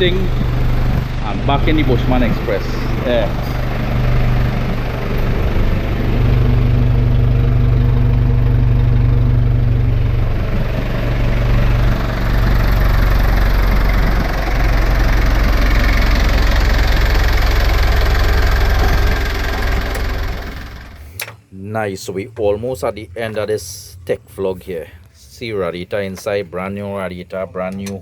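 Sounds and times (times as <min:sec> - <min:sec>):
diesel engine idling: 0:00.0 - 0:21.5, 0:22.3 - 0:28.0.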